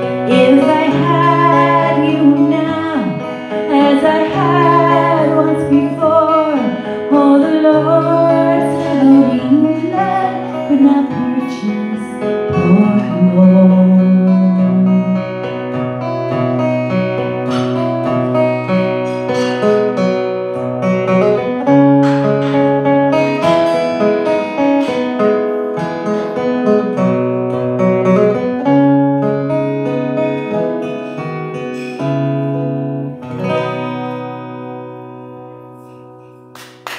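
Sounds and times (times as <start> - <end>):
acoustic guitar picked solo: 0.0 - 36.9.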